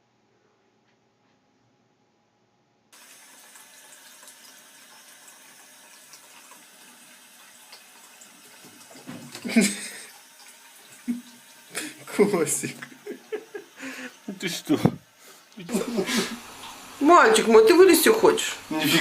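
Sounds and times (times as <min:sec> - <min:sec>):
tap water running into bathtub: 0:03.0 - 0:19.0.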